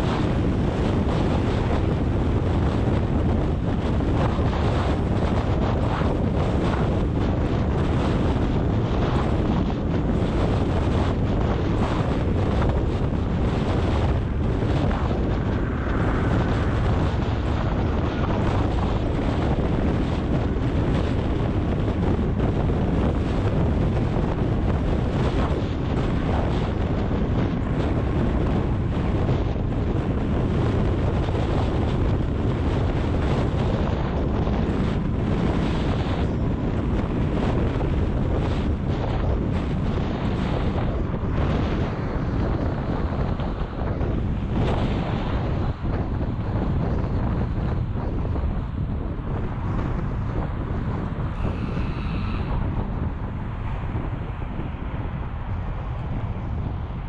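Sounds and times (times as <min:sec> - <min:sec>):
car road noise: 0:00.0 - 0:57.0
wind buffeting microphone: 0:00.0 - 0:57.0.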